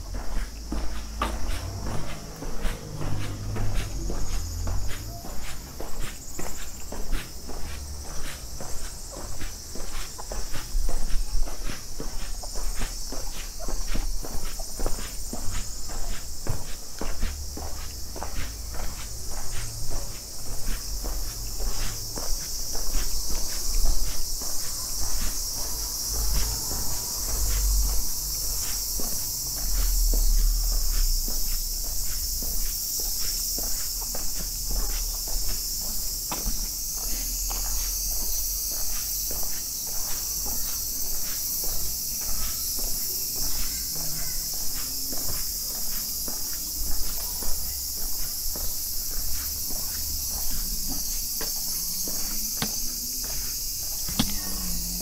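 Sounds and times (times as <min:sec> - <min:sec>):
footsteps on asphalt: 0:00.0 - 0:55.0
insects chirping: 0:00.0 - 0:55.0.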